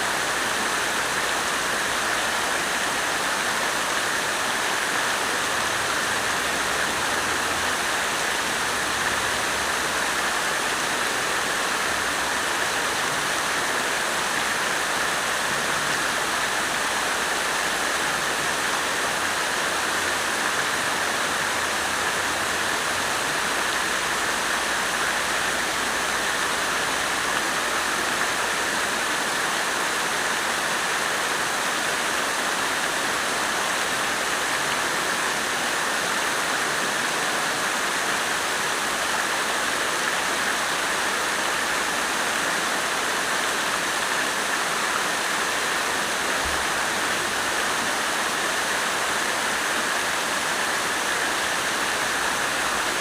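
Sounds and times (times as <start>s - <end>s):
water fountain splashing: 0.0s - 53.0s.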